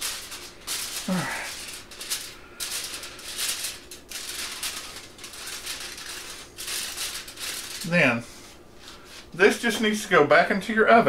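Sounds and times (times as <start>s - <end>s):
aluminum foil crinkling: 0.0s - 9.8s.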